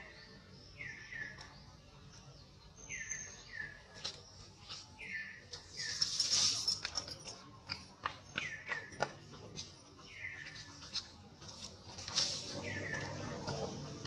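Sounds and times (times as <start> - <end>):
bird chirping: 0.0 - 6.6, 8.0 - 11.1, 12.4 - 14.0.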